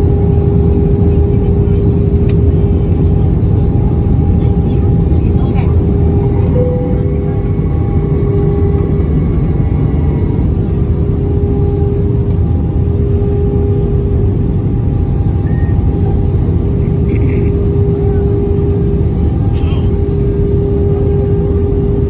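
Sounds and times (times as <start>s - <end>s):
airliner cabin engine rumble: 0.0s - 22.0s
even hum: 0.0s - 22.0s.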